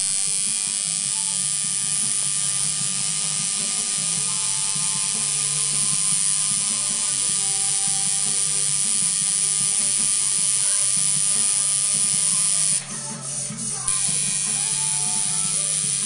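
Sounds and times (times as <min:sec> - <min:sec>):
tattoo machine buzzing: 0:00.0 - 0:16.0.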